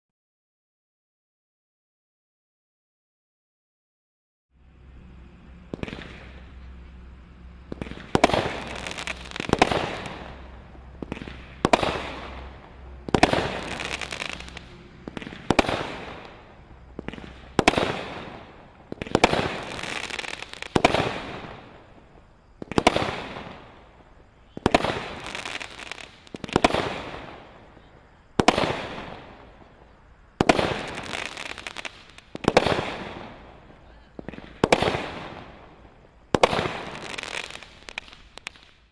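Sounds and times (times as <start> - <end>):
firework shots banging and crackling: 5.5 - 38.9.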